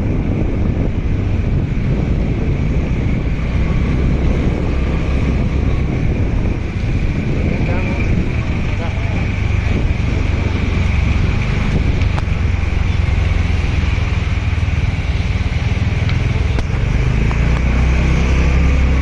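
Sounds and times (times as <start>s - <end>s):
car and motorcycle engines rumbling: 0.0s - 19.0s.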